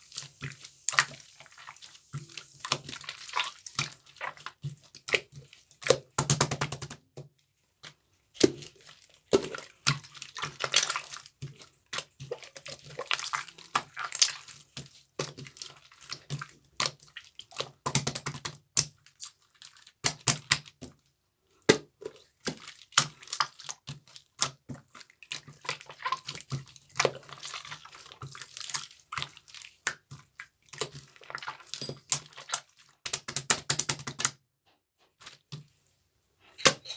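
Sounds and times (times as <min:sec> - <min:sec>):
slime squishing by hand: 0:00.0 - 0:34.4.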